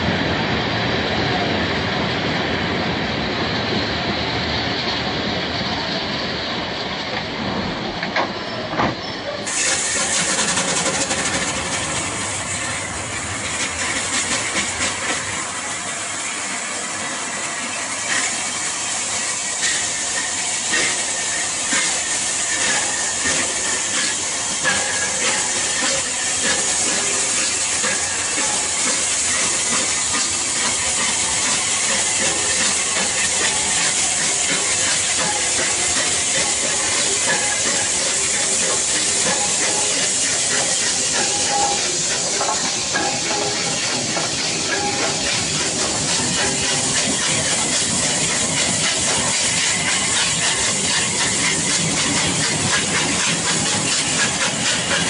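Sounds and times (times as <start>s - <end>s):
steam hissing: 0.0s - 55.0s
train wheels clicking over rail joints: 2.1s - 55.0s.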